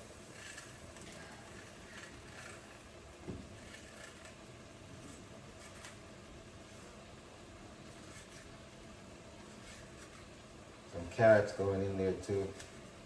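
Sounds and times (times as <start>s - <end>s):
faint kitchen cooking noise: 0.0s - 13.0s.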